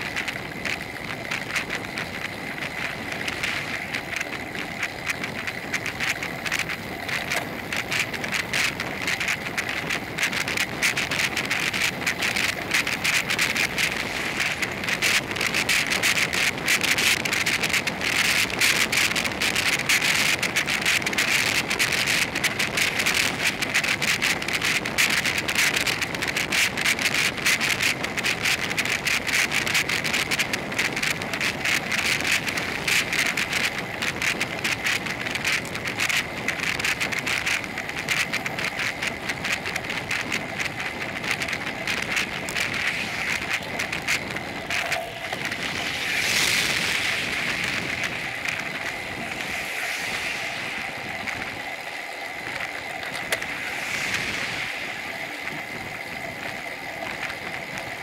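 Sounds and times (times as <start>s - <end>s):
road noise: 0.0s - 58.0s
wind buffeting microphone: 0.0s - 58.0s.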